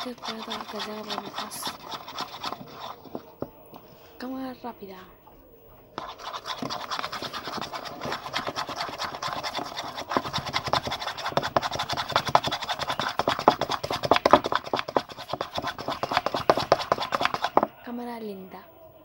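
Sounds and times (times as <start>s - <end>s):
spoon beating mixture in bowl: 0.0s - 3.9s, 6.0s - 17.8s.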